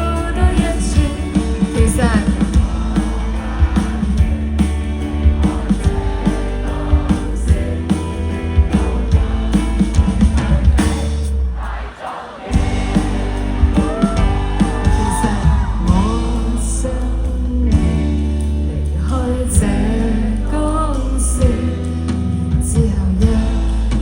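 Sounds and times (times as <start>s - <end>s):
live band playing: 0.0s - 11.5s, 12.4s - 24.0s.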